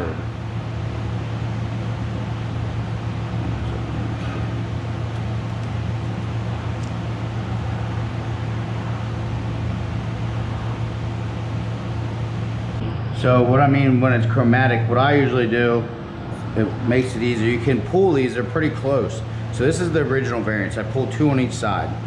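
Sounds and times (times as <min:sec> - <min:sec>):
equipment humming and hissing: 0:00.0 - 0:22.0.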